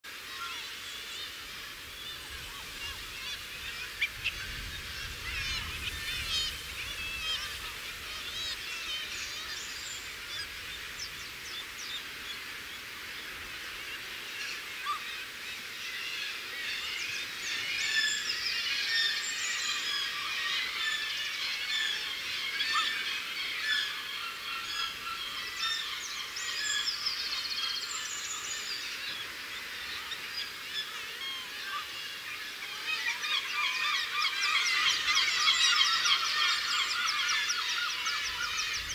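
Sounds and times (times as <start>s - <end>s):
seabirds calling: 0.1s - 38.9s.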